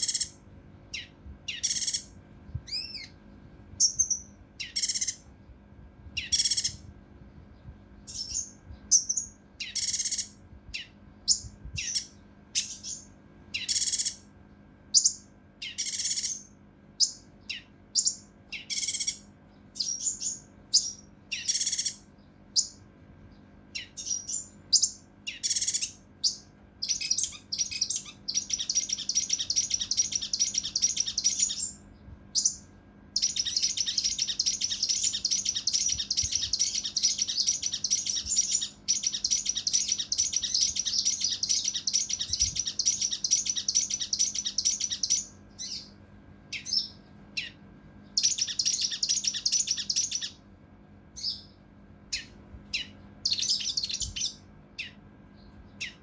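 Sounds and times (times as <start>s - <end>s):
songbird calling and trilling: 0.0s - 3.2s, 3.8s - 5.4s, 6.1s - 6.9s, 7.5s - 14.3s, 14.9s - 50.5s, 51.1s - 56.0s.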